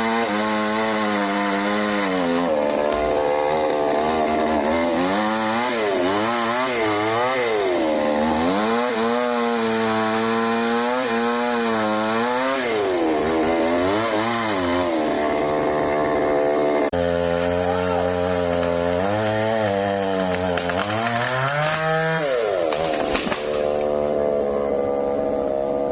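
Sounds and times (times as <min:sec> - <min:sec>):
chainsaw engine revving: 0:00.0 - 0:25.9.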